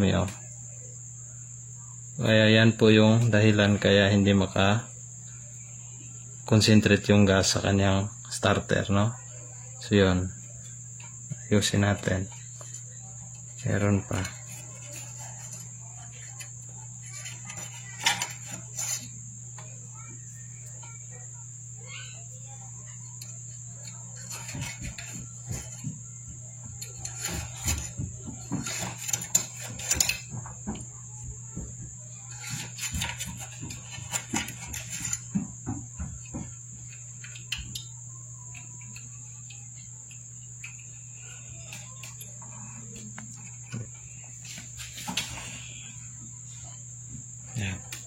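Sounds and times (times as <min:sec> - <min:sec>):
crickets chirring: 0:00.0 - 0:48.0.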